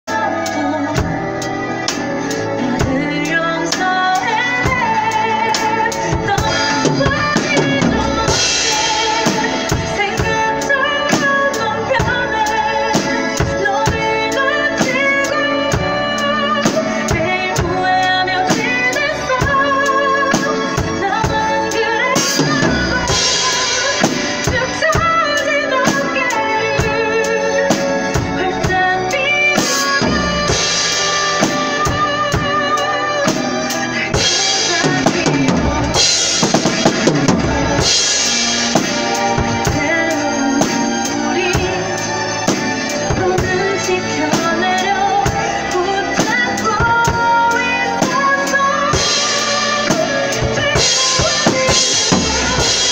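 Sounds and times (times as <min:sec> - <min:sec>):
acoustic drum kit: 0:00.0 - 0:52.9
recorded pop ballad: 0:00.0 - 0:52.9.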